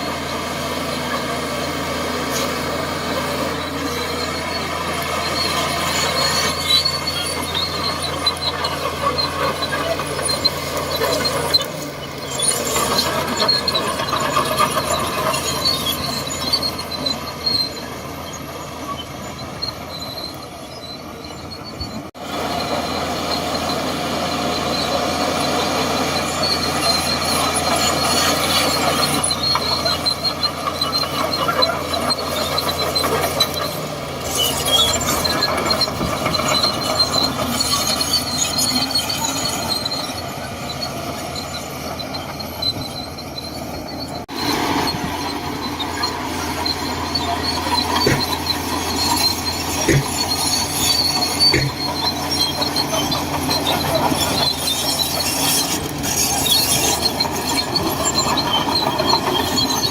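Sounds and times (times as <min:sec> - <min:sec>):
bulldozer diesel engine running: 0:00.0 - 0:59.9
steel tracks clanking and squealing: 0:00.0 - 0:59.9.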